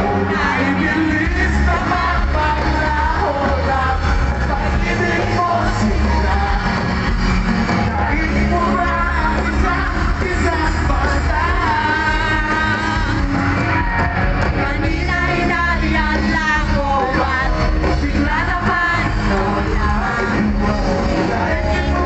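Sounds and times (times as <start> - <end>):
heavy bass line: 0.0 - 22.0
live pop-rock band: 0.0 - 22.0.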